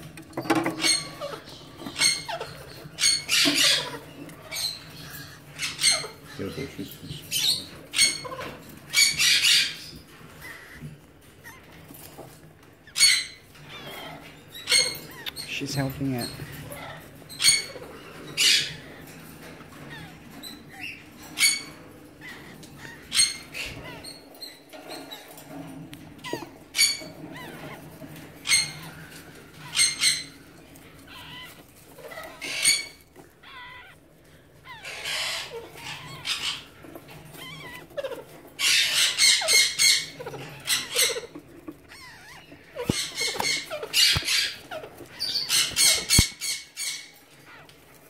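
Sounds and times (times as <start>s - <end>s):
parakeet squawking: 0.5s - 48.0s.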